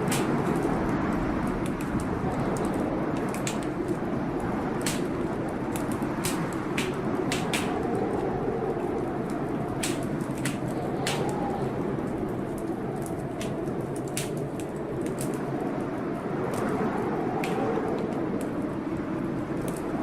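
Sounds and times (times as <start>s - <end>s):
storm wind howling: 0.0s - 20.0s
wood fire crackling and popping: 0.0s - 20.0s.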